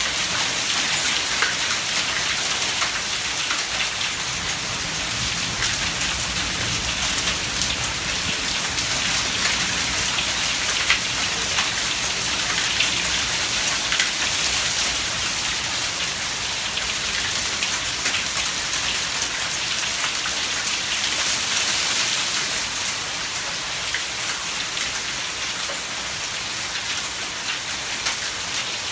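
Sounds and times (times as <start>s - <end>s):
heavy rain and hail: 0.0s - 28.9s.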